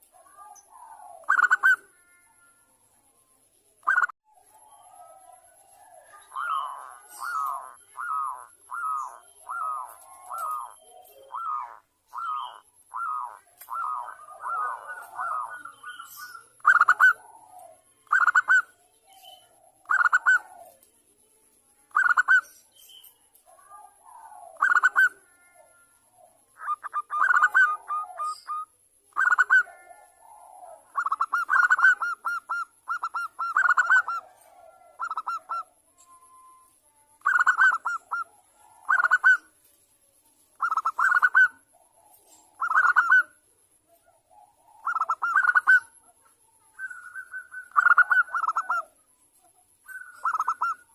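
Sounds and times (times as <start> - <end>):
dove cooing: 0.0 - 2.5, 3.8 - 20.9, 23.4 - 36.6, 37.2 - 39.6, 40.5 - 49.0, 49.8 - 50.9.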